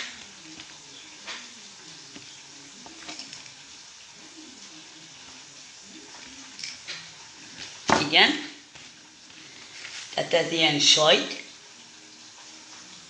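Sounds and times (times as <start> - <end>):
sausages sizzling in a pan: 0.0 - 13.0.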